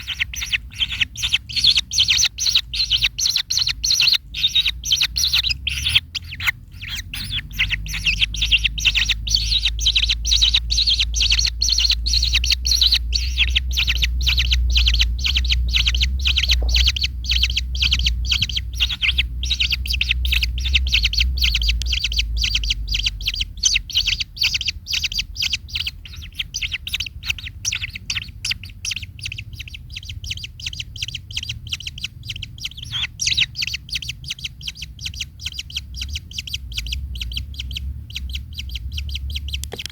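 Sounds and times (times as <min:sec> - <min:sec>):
kingfisher chirping: 0:00.0 - 0:39.9
low rumble: 0:00.0 - 0:39.9.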